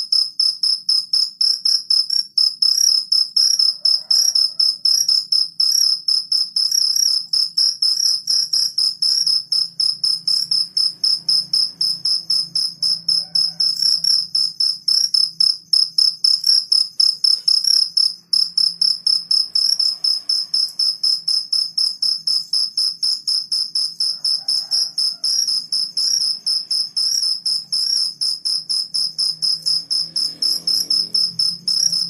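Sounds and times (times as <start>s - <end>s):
cricket chirping: 0.0s - 32.0s.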